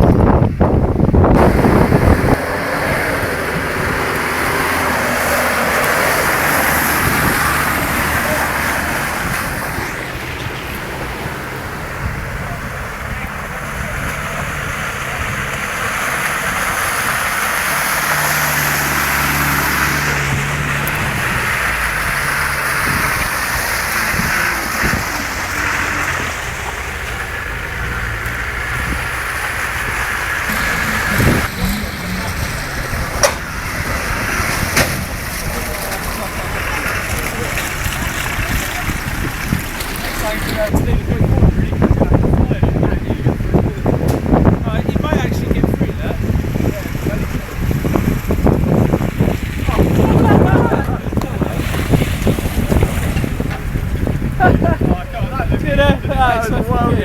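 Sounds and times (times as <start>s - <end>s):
off-road vehicle engine drone: 0.0s - 57.0s
wind buffeting microphone: 0.0s - 57.0s.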